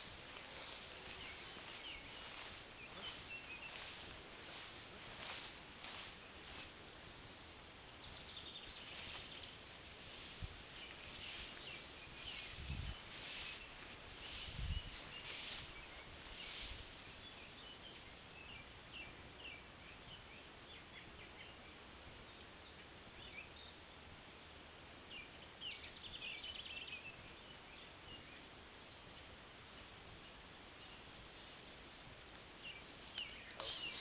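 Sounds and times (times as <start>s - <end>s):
small birds chirping: 0.0s - 24.1s, 25.0s - 34.0s
outdoor background hiss: 0.0s - 34.0s.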